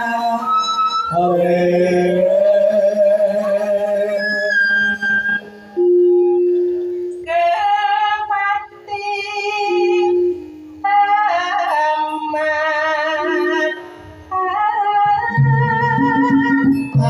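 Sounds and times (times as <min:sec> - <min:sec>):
woman singing long wavering notes: 0:00.0 - 0:17.0.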